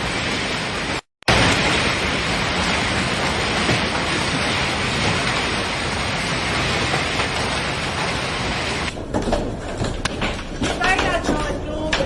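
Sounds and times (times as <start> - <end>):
heavy hail falling: 0.0 - 12.0.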